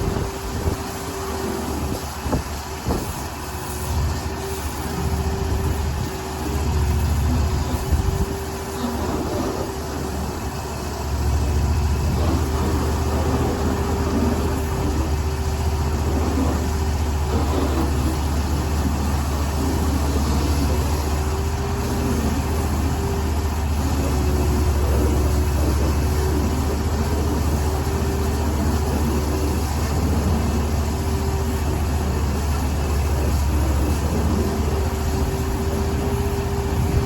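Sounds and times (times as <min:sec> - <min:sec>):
engine running steadily: 0:00.0 - 0:37.0.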